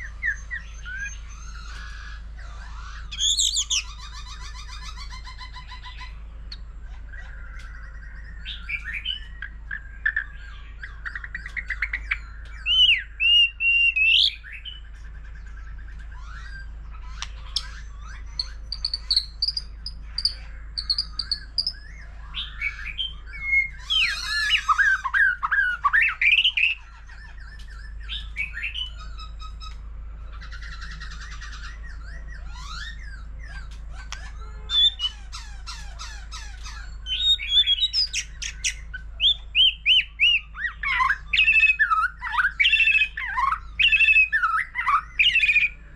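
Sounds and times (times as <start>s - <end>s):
songbird singing varied song: 0.0s - 45.9s.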